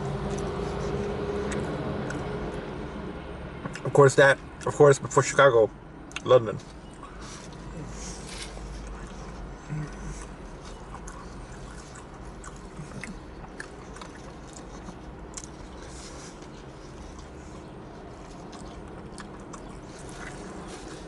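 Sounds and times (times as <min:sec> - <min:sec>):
person chewing food: 0:00.0 - 0:02.8, 0:06.1 - 0:21.0
low background hum: 0:00.0 - 0:21.0.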